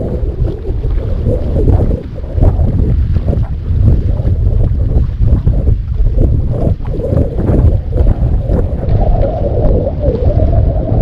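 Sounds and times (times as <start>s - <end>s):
water slapping against boat hull: 0.0s - 10.3s
wind buffeting microphone: 0.0s - 11.0s.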